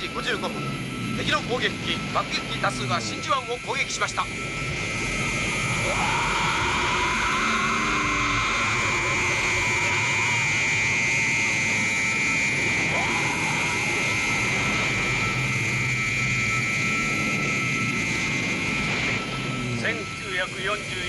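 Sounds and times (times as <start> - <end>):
high whine: 0.0 - 21.0.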